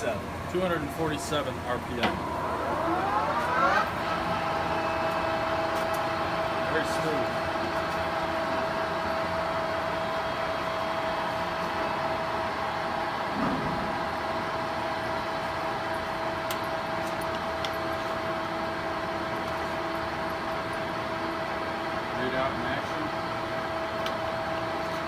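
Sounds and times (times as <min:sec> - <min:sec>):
lathe humming with whine: 0:00.0 - 0:25.0.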